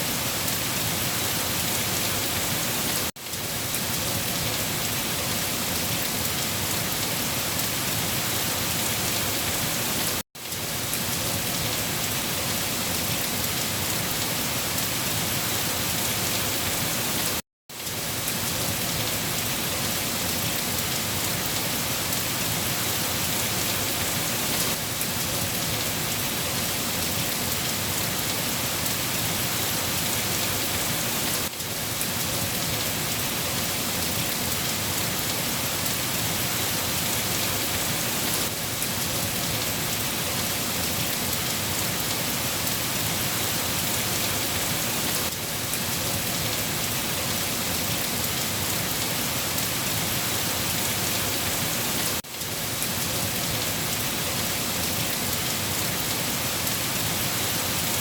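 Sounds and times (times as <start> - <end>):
rain pattering: 0.4 - 58.0.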